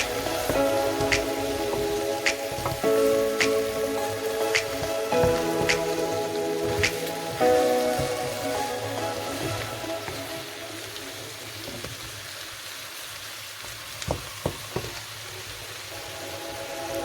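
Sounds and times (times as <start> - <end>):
shrimp sizzling in a pan: 0.0 - 17.0.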